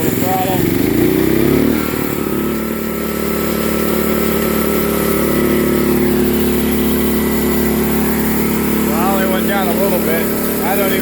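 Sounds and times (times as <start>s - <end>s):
gasoline engine running: 0.0s - 11.0s.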